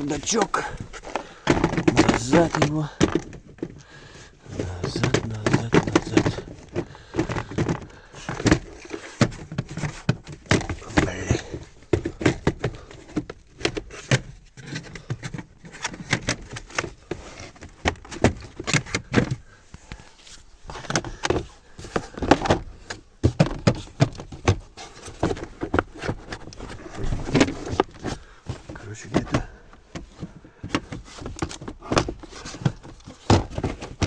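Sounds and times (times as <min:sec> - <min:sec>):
plastic glovebox knocks and rattles: 0:00.0 - 0:03.8, 0:04.6 - 0:20.0, 0:20.7 - 0:34.0.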